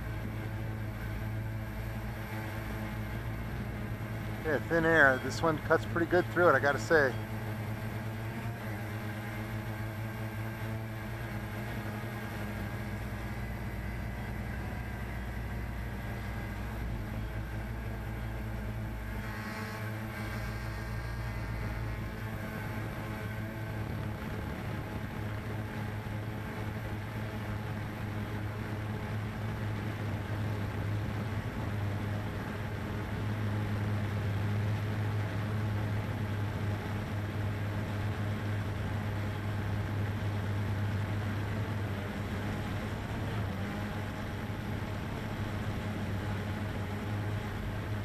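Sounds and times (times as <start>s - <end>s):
drone propellers droning: 0.0s - 48.0s.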